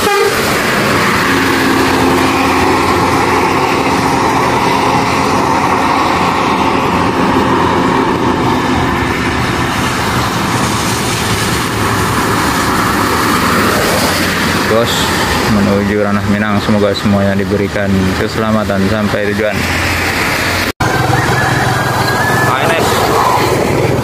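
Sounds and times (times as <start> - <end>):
coach bus passing on wet road: 0.0 - 24.0.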